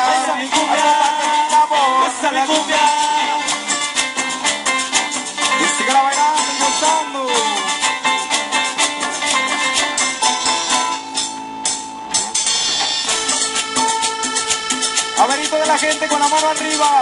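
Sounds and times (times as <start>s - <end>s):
band percussion: 0.0s - 17.0s
scraped rattling rhythm: 0.0s - 17.0s
sliding melody: 0.0s - 17.0s.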